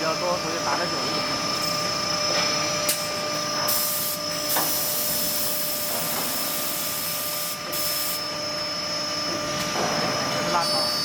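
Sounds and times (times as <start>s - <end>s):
drilling machine spindle whine: 0.0s - 11.0s.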